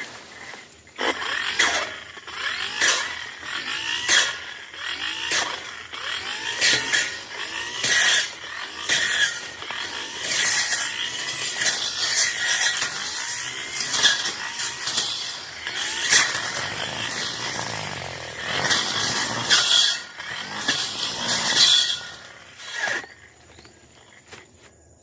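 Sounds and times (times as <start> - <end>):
brush cutter cutting grass: 0.0 - 24.8.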